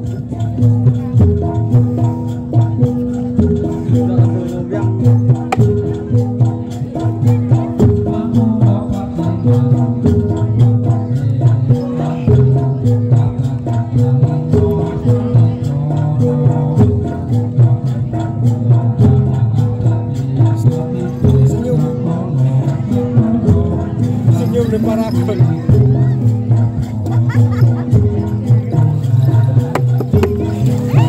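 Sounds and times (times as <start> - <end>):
jingling percussion: 0.0 - 31.0
metal percussion and drums ensemble: 0.0 - 31.0.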